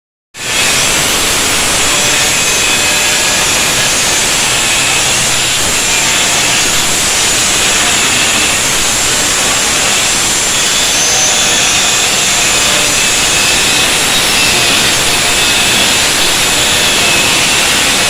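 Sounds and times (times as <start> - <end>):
power tool grinding steel: 0.4 - 18.0.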